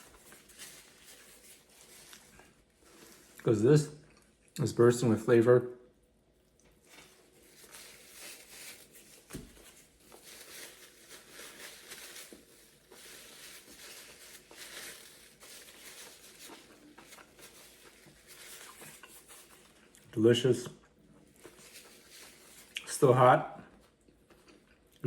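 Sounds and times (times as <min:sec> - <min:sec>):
food being chewed: 0:00.0 - 0:04.6, 0:06.4 - 0:20.2, 0:20.8 - 0:22.9, 0:23.6 - 0:25.0
soft crinkling and crackling: 0:00.0 - 0:04.7, 0:06.4 - 0:25.0.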